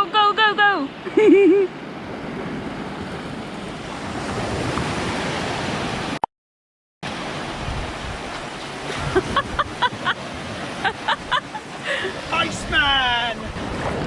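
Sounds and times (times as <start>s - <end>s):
sea waves washing on shore: 1.8s - 6.2s, 7.0s - 14.0s.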